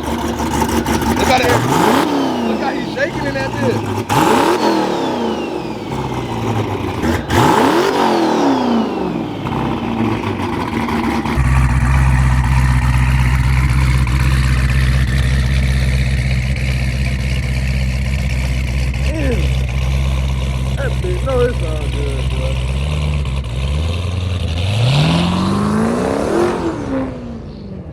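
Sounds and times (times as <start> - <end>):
engine exhaust crack: 0.0 - 26.0
car engine revving: 0.0 - 27.9
deep engine rumble: 0.0 - 27.9.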